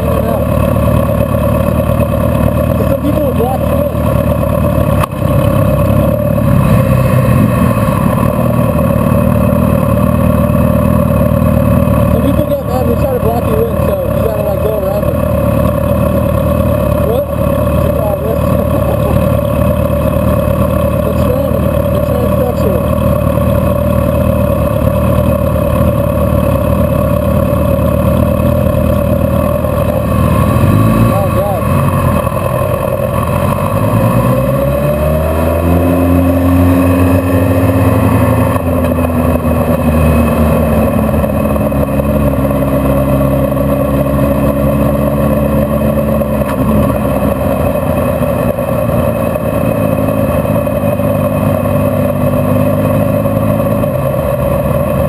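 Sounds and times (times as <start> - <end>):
road noise inside car: 0.0 - 55.0
traffic engines humming: 0.0 - 55.0.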